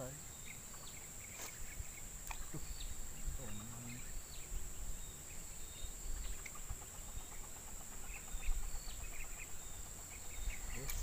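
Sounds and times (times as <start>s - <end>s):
bird chirps: 0.0s - 11.0s
insects droning: 0.0s - 11.0s.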